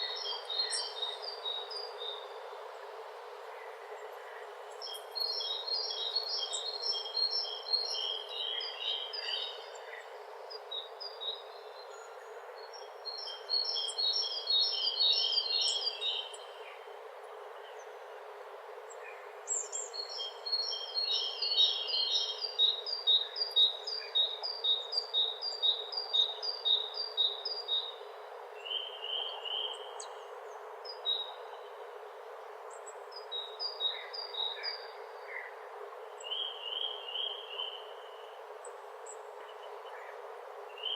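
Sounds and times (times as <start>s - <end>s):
songbird chirping: 0.0s - 2.4s, 3.6s - 16.7s, 19.0s - 31.9s, 32.6s - 40.9s
steady background hiss: 0.0s - 40.9s.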